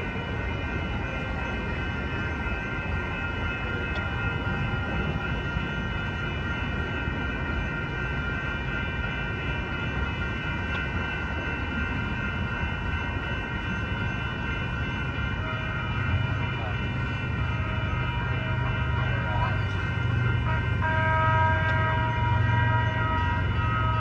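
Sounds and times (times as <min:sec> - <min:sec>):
crossing warning bells: 0:00.0 - 0:24.0
trolley cars rumbling over tracks: 0:00.0 - 0:24.0.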